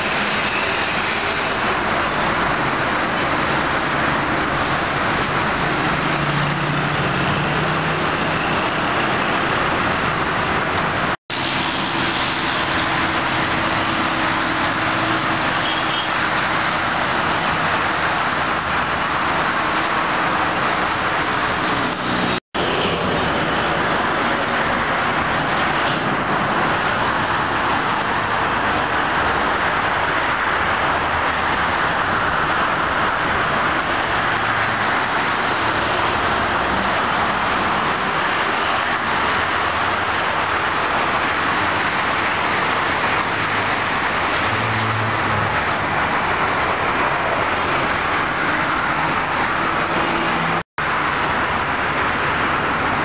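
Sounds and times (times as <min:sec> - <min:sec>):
expressway traffic passing: 0:00.0 - 0:53.0.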